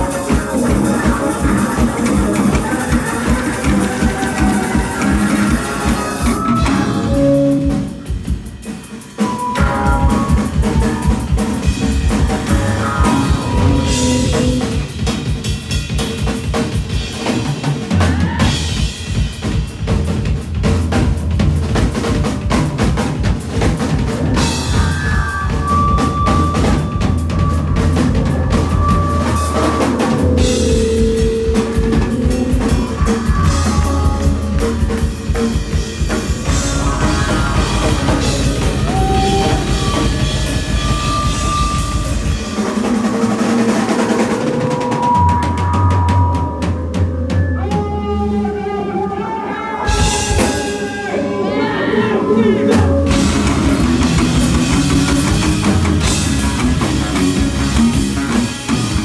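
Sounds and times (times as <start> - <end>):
drum kit: 0.0 - 49.0, 49.8 - 51.6, 52.4 - 59.0
electric shamisen rock: 0.0 - 59.0.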